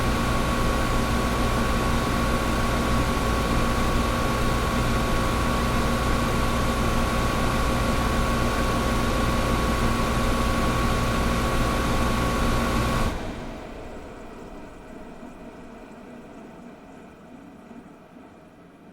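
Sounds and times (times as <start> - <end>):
air conditioner air rush: 0.0 - 15.9
air conditioner hum and whine: 0.0 - 18.9.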